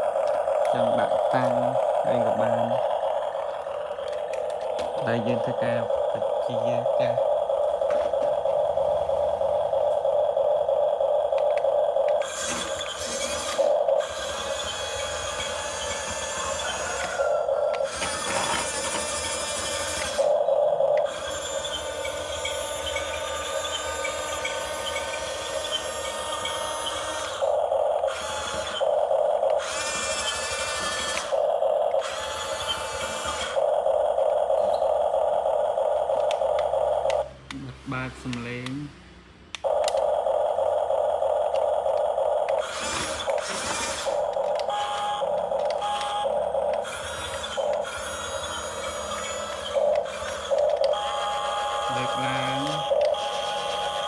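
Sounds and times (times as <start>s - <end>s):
toy electric motors whirring: 0.0s - 54.0s.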